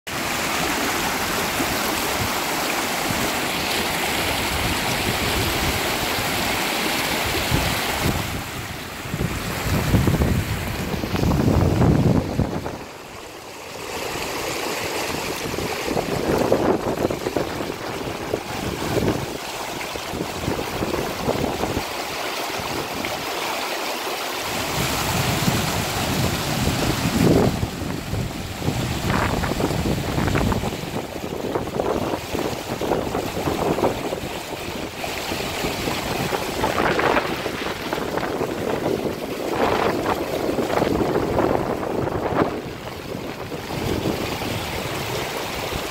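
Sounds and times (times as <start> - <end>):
river rushing over rocks: 0.1 - 45.9.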